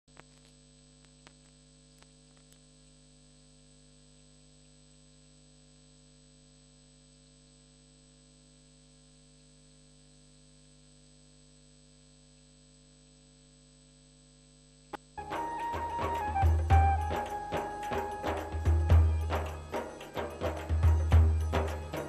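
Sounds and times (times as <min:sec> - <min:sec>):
faint electrical hum with hiss: 0:00.1 - 0:22.0.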